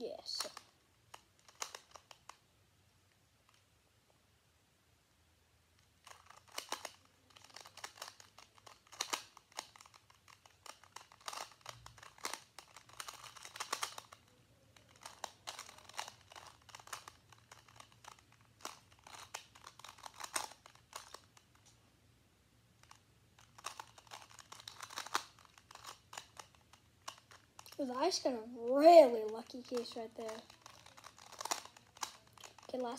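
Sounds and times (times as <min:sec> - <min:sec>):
puzzle cube clicking: 0:00.4 - 0:02.4, 0:05.8 - 0:21.8, 0:22.8 - 0:32.9.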